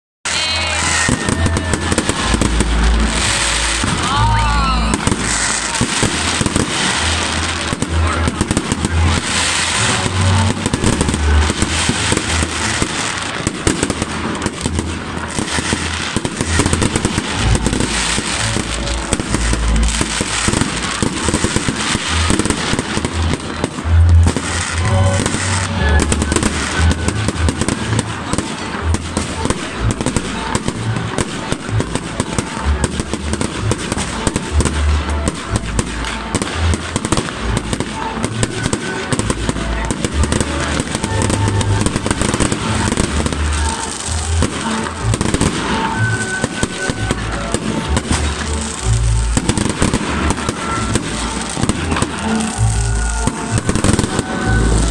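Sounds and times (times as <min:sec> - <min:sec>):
fireworks bursting: 0:00.3 - 0:54.9.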